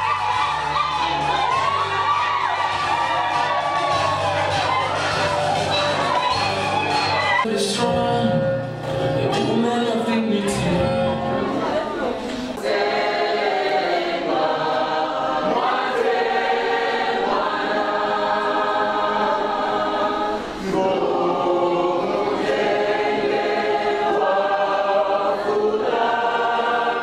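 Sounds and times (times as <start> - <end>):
choir singing held chords: 0.0 - 7.5, 12.4 - 27.0.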